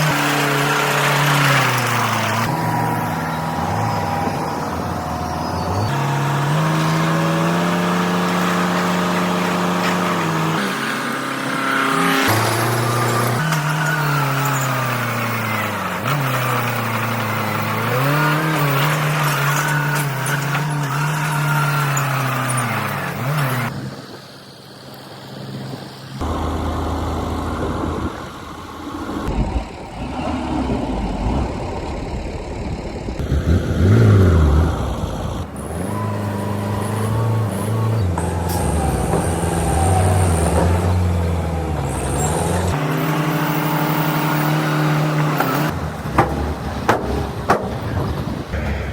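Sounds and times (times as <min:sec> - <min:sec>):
construction machinery diesel engines: 0:00.0 - 0:48.9.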